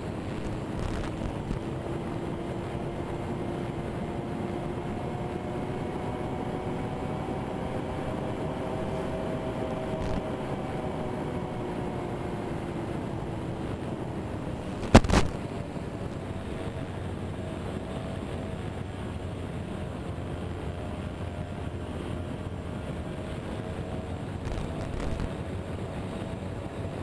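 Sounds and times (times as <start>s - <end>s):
electric motors and propellers humming: 0.0s - 27.0s
wind rushing across microphone: 0.0s - 27.0s.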